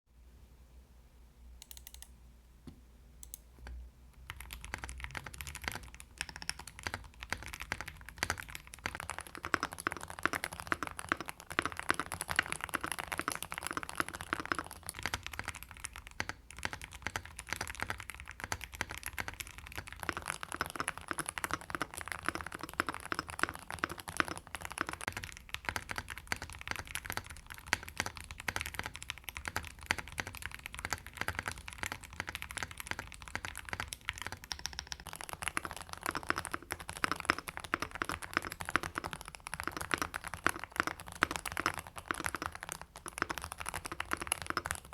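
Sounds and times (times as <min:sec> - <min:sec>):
keyboard typing: 0:01.6 - 0:02.1, 0:03.2 - 0:44.9.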